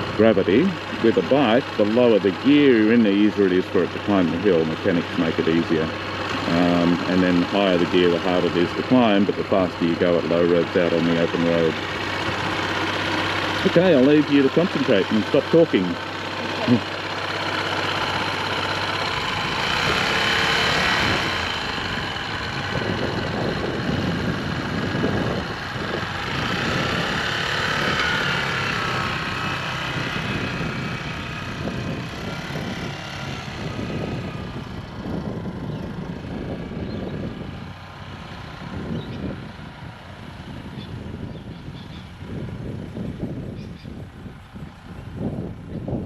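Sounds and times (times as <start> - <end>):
small motorcycle engine: 0.0 - 46.0.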